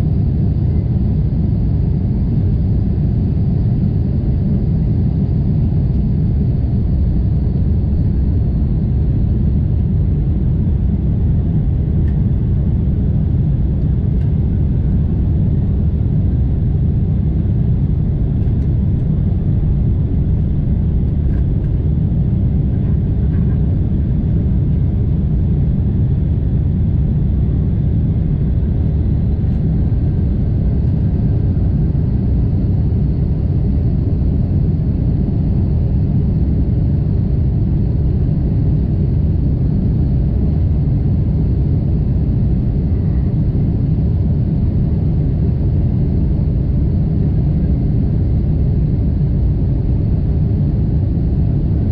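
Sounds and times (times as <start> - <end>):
aircraft cabin engine rumble: 0.0 - 51.9.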